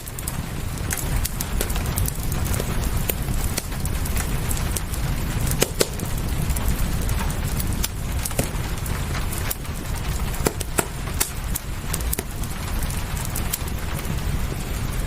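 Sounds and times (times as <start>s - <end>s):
rain hiss: 0.0s - 15.0s
wood fire crackling: 0.0s - 15.0s.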